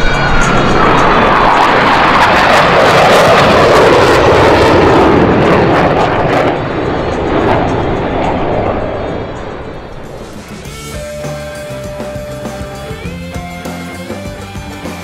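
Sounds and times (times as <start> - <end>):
jet making loud low pass: 0.0 - 12.8.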